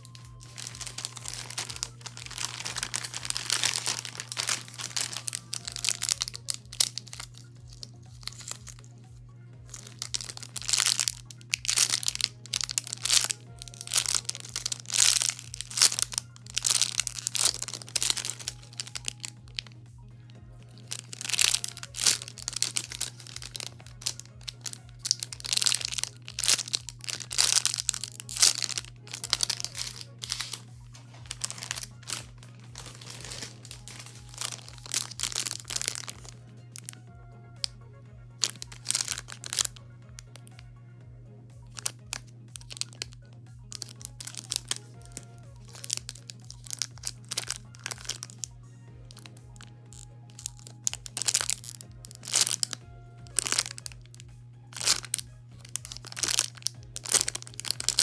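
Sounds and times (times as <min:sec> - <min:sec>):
plastic bags crinkling: 0:00.0 - 0:08.9, 0:09.6 - 0:19.8, 0:20.6 - 0:37.1, 0:38.4 - 0:40.6, 0:41.6 - 0:58.0
background music: 0:00.0 - 0:58.0.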